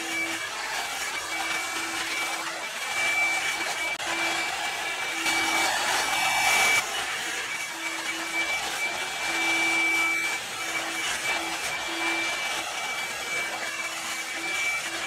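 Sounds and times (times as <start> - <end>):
hot-air brush dryer running: 0.0 - 15.0.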